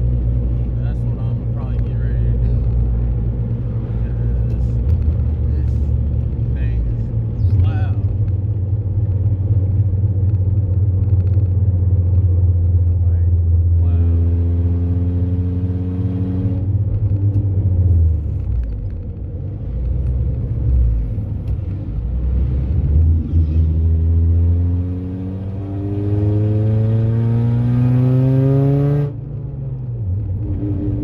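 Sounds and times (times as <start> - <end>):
loud car engine accelerating: 1.8 - 18.6, 19.8 - 31.0.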